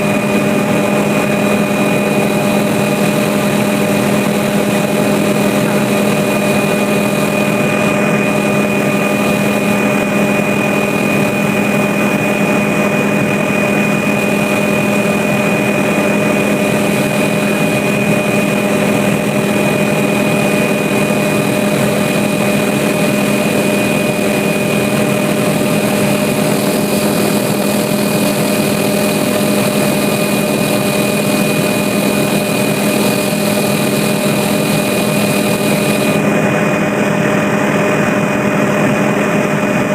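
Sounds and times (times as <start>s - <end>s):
aircraft engine droning: 0.0s - 39.9s.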